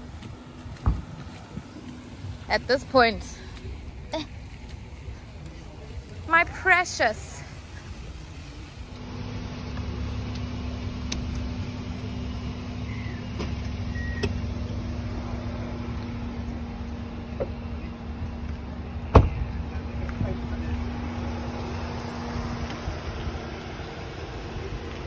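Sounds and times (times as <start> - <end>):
car cabin rumble: 0.0 - 5.0, 8.0 - 25.0.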